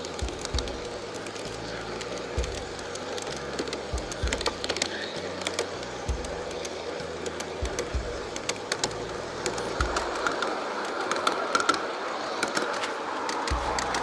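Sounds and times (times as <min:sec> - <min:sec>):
model train wheels clicking: 0:00.0 - 0:14.0.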